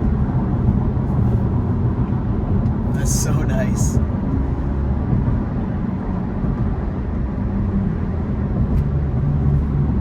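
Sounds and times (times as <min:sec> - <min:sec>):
road and tyre rumble in car: 0:00.0 - 0:10.0.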